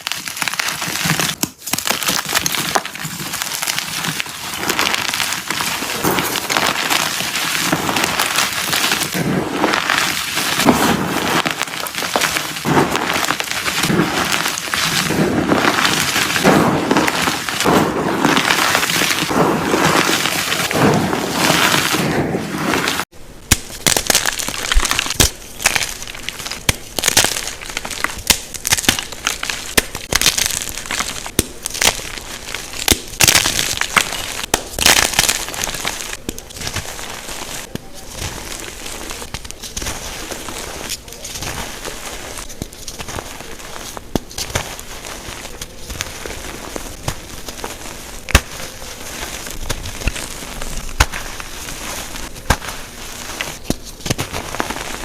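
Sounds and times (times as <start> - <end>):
chalk blocks crunching: 0.0 - 55.0.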